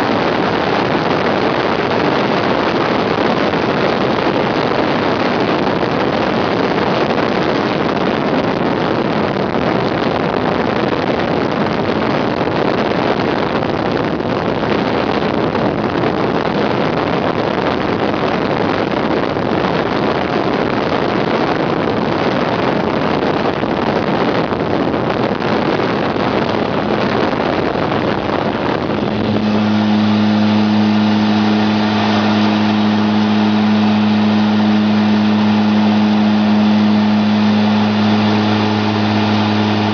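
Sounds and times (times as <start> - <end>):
low engine drone: 0.0 - 39.9
turboprop engines rushing: 0.0 - 39.9.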